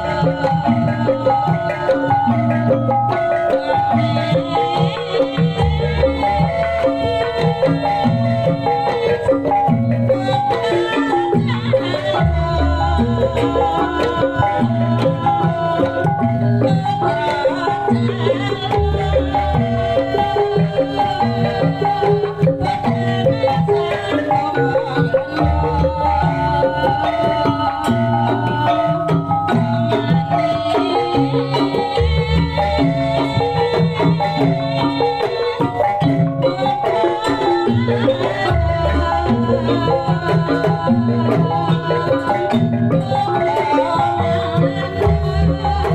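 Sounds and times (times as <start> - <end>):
hand drums: 0.0 - 45.9
pitched melodic percussion: 0.0 - 45.9.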